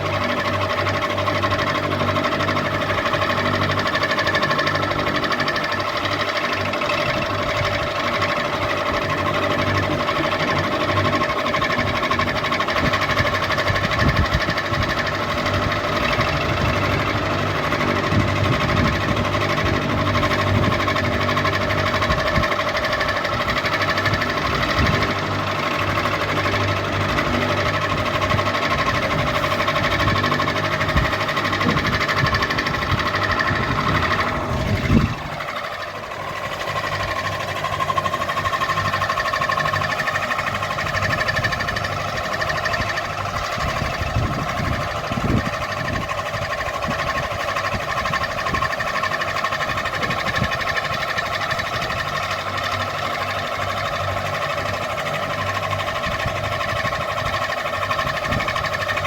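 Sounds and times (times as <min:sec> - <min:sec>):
ceiling fan motor hum: 0:00.0 - 0:59.0
low rattle: 0:00.0 - 0:59.0.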